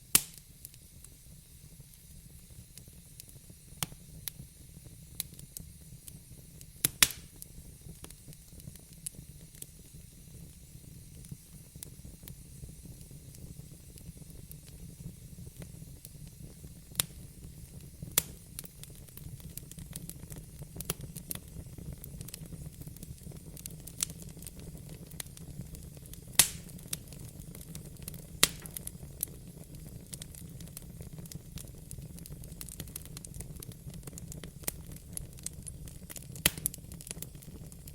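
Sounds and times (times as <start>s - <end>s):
sharp pops of fire: 0.0s - 37.9s
wood fire crackling: 0.0s - 37.9s.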